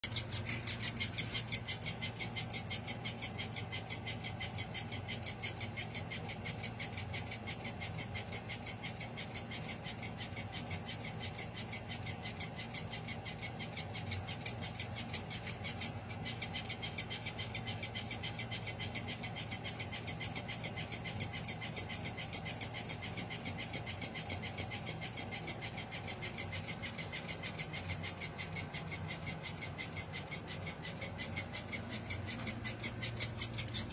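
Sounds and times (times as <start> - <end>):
rapid clicking: 0.0 - 33.9
toy motor humming: 0.0 - 33.9.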